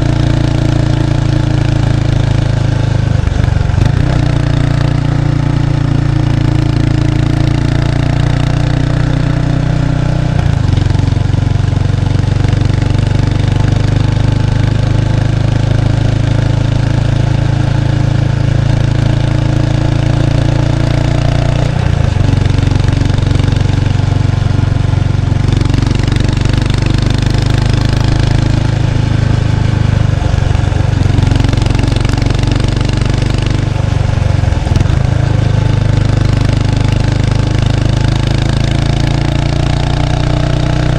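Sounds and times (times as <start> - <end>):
motorcycle exhaust: 0.0 - 40.9.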